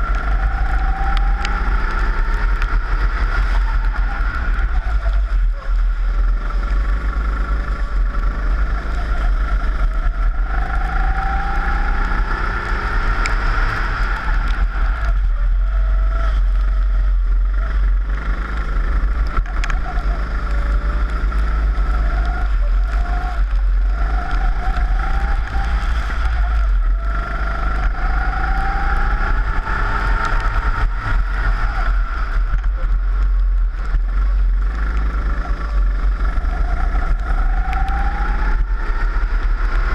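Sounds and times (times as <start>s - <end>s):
kart engine accelerating: 0.0s - 39.9s.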